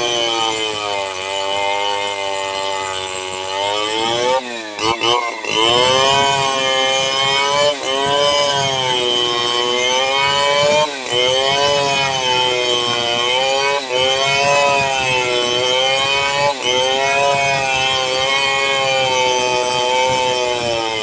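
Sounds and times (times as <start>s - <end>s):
chainsaw cutting log: 0.0s - 21.0s.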